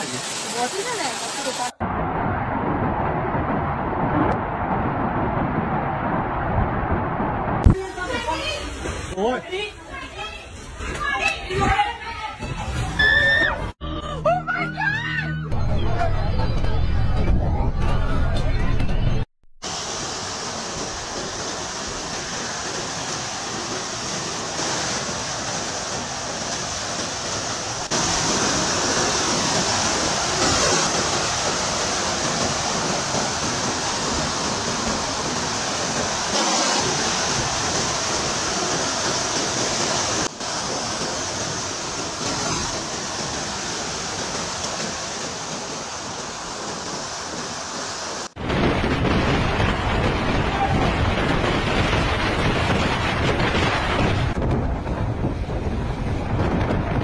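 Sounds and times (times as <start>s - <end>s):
storm wind and pouring rain: 0.0s - 13.8s, 15.6s - 57.0s.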